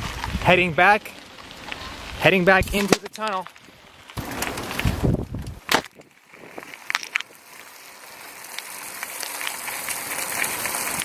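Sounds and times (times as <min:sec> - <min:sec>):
bicycle tyre and wind noise: 0:00.0 - 0:11.0.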